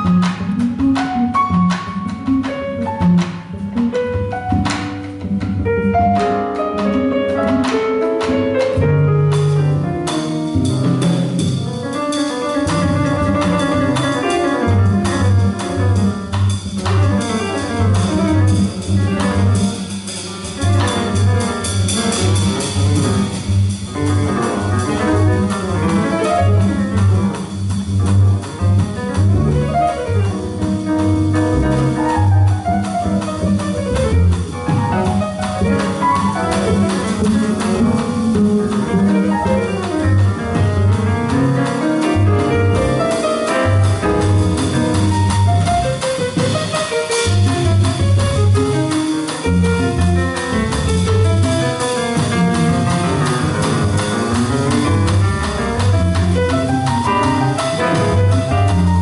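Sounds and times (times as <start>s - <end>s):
double bass: 0.0s - 59.0s
grand piano: 0.0s - 59.0s.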